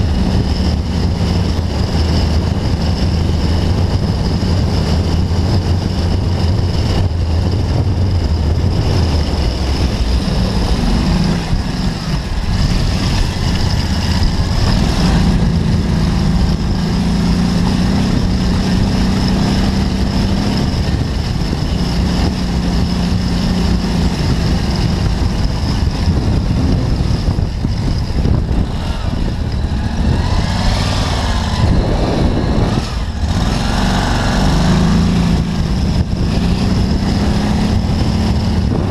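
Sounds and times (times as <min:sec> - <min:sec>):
dune buggy engine revving: 0:00.0 - 0:38.9.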